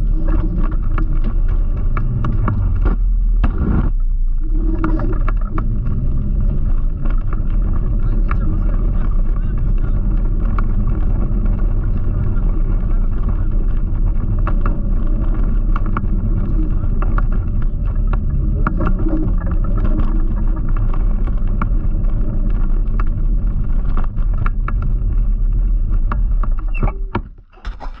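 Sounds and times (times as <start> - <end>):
clicks and rattles from bumps: 0.0 - 4.0, 4.6 - 28.0
road rumble: 0.0 - 26.8.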